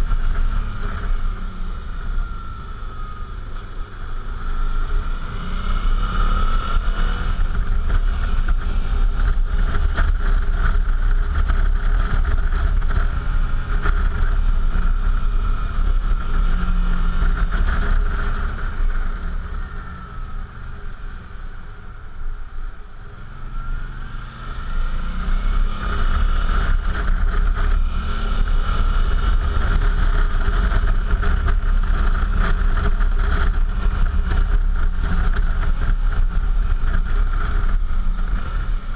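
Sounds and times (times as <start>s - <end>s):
motorcycle engine running: 0.0s - 38.9s
wind rumble: 0.0s - 38.9s.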